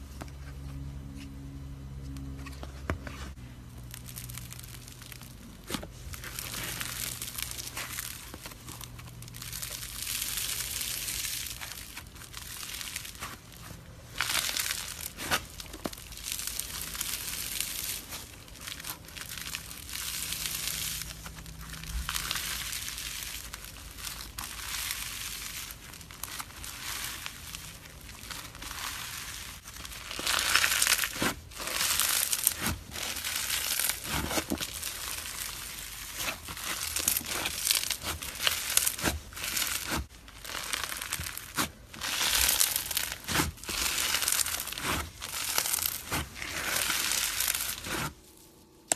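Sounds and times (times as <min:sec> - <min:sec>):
slime squeezed by hand crackling: 0:03.1 - 0:48.2.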